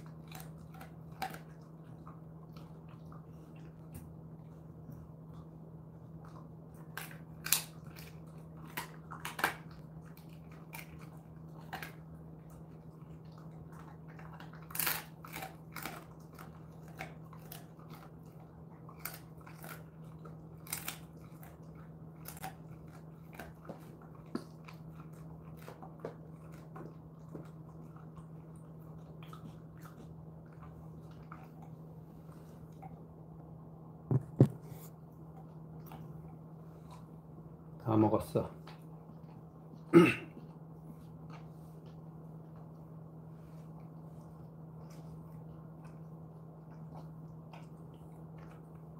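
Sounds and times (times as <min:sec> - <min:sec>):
dog crunching and chewing: 0:00.0 - 0:48.9
steady low hum: 0:00.0 - 0:48.9.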